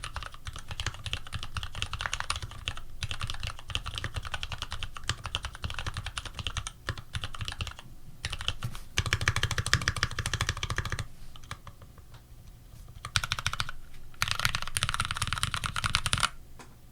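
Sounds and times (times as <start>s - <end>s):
mechanical keyboard typing: 0.0s - 11.8s, 13.0s - 16.4s.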